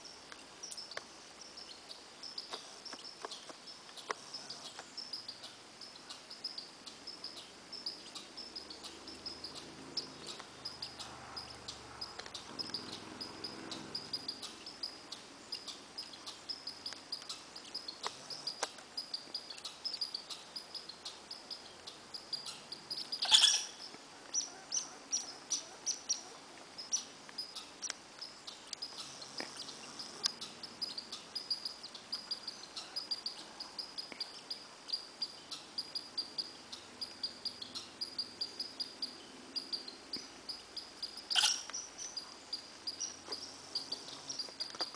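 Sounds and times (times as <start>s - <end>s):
small animal chirping: 1.6s - 44.9s.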